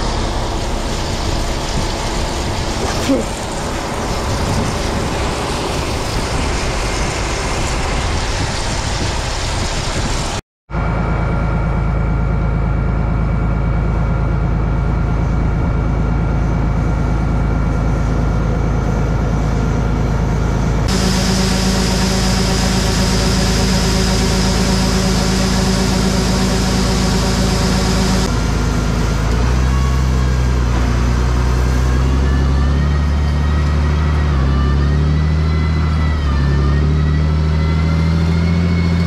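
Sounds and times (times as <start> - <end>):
rushing machine noise: 0.0 - 36.9
engine drone: 0.0 - 39.0.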